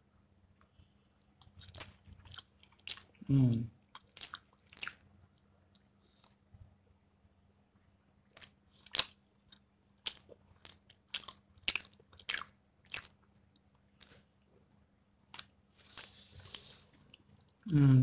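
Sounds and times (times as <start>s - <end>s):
crunchy chewing of bread: 1.2s - 6.5s, 8.2s - 17.6s.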